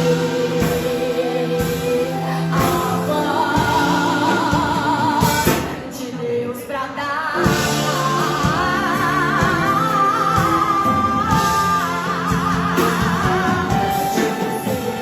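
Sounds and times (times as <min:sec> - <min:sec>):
backing band with drums: 0:00.0 - 0:06.0, 0:07.4 - 0:15.0
person singing with vibrato: 0:00.0 - 0:15.0.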